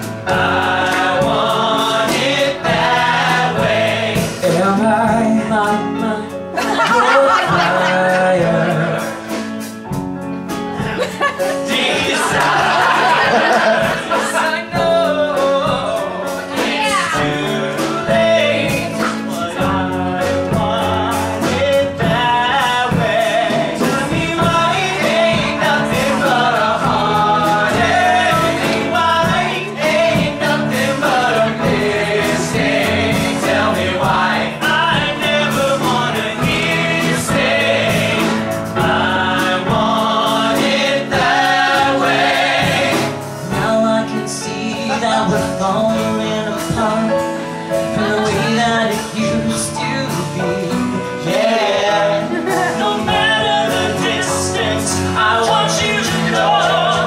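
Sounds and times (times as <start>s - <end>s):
male vocal ensemble singing: 0.0s - 9.9s, 10.7s - 57.0s
live band playing: 0.0s - 57.0s.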